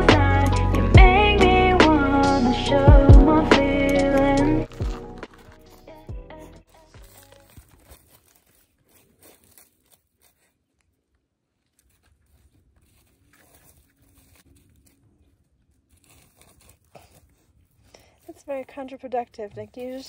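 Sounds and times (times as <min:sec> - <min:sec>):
dog digging in dirt: 0:03.8 - 0:20.0.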